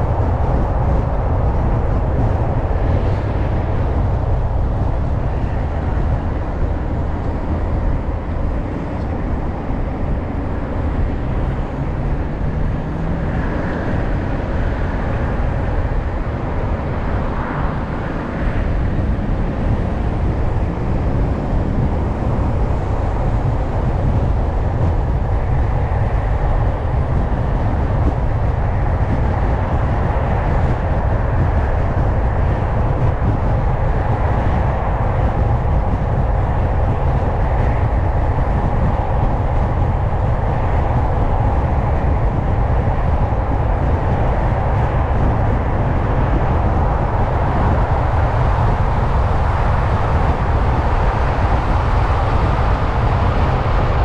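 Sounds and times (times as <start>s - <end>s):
low engine rumble: 0.0s - 54.0s
tyre and road noise: 0.0s - 54.0s.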